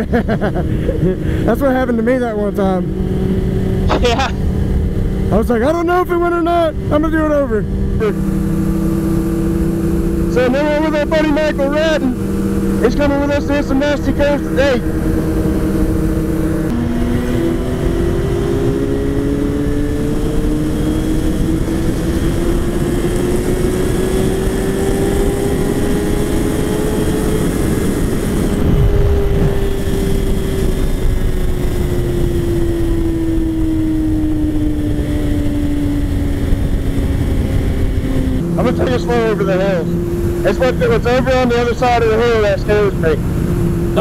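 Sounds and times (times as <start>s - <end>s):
heavy wind noise: 0.0s - 44.0s
motorcycle engine revving: 0.0s - 44.0s.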